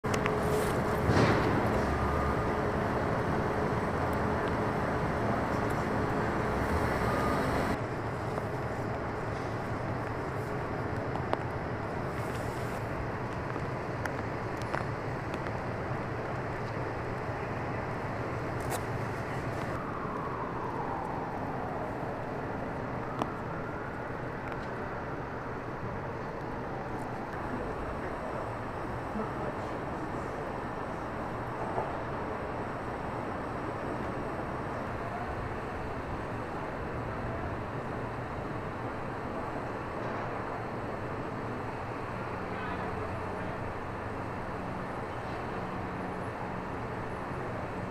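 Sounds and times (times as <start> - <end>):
idling engines and traffic rumble: 0.0 - 47.9.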